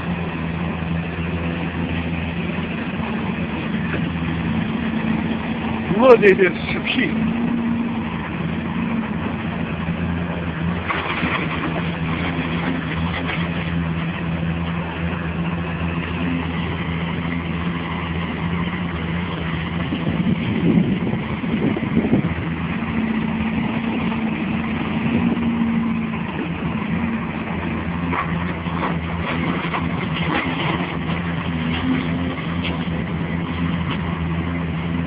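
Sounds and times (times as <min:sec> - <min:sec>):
heavy machine engine running: 0:00.0 - 0:35.0.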